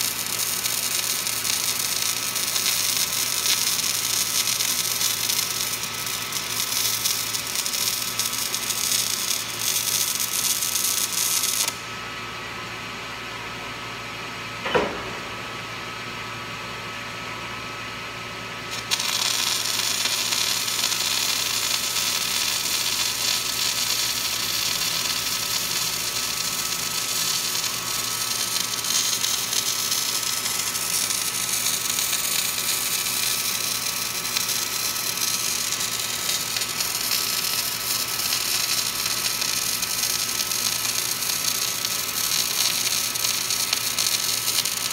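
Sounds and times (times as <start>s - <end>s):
arc welding crackling hiss: 0.0s - 11.8s, 18.7s - 44.9s.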